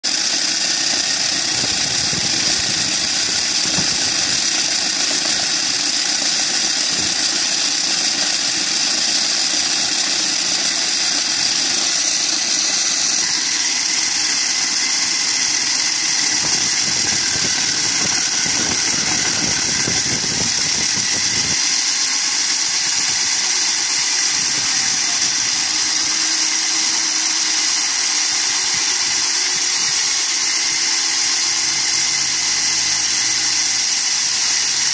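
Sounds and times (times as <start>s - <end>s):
core drill grinding into concrete: 0.0s - 34.9s.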